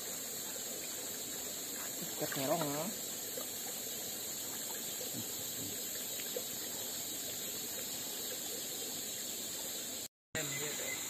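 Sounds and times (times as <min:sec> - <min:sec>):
high insect drone: 0:00.0 - 0:11.0
running water hiss: 0:00.0 - 0:11.0.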